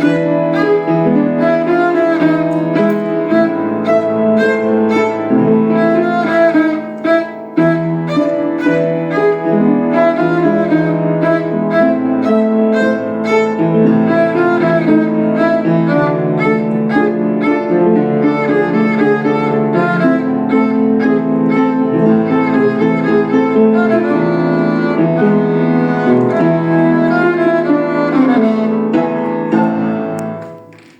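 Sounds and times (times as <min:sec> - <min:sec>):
piano accompaniment: 0:00.0 - 0:30.9
violin tango melody: 0:00.0 - 0:30.9.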